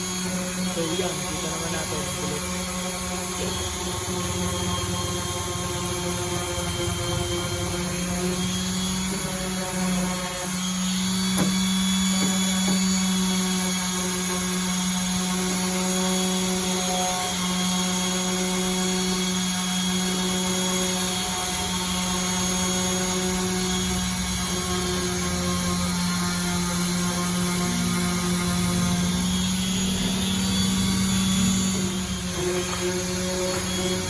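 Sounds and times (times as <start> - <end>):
orbital sander running: 0.0 - 34.0.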